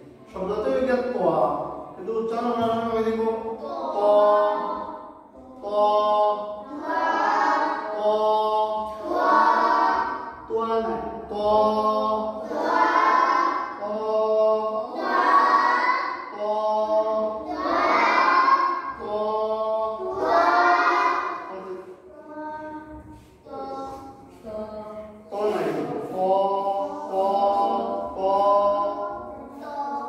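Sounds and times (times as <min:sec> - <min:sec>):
person chanting: 0:01.6 - 0:30.0
children chanting in unison: 0:02.6 - 0:30.0.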